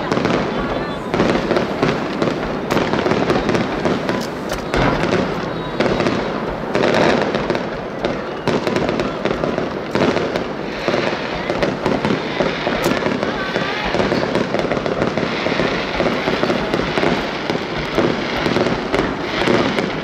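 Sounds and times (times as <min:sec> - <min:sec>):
firework shells bursting: 0:00.0 - 0:20.0
fireworks crackling and popping: 0:00.0 - 0:20.0.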